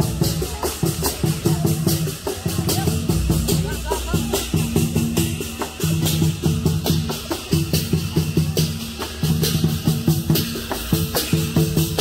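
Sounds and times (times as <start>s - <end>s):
barrel drum beating: 0.0s - 12.0s
hand cymbals clashing: 0.0s - 12.0s.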